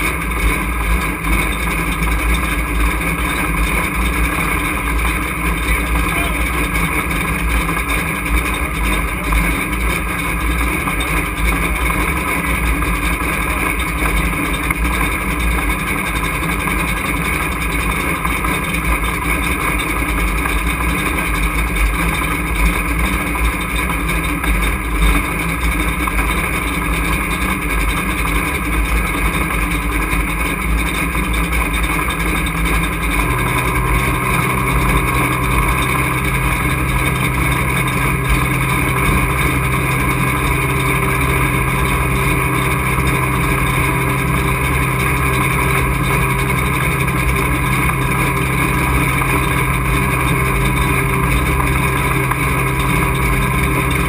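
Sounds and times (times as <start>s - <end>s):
low hum: 0.0s - 54.0s
truck engine running: 0.0s - 54.0s.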